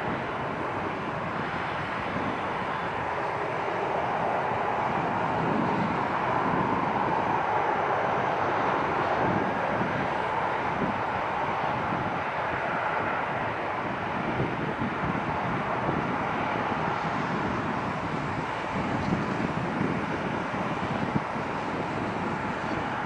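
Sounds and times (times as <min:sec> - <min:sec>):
distant jet engine hum: 0:00.0 - 0:23.0.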